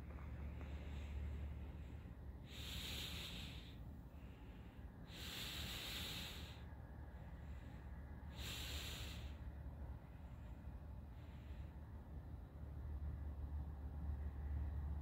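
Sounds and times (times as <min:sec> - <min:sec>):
person breathing: 0:00.0 - 0:12.4
faint low rumble: 0:00.0 - 0:15.0.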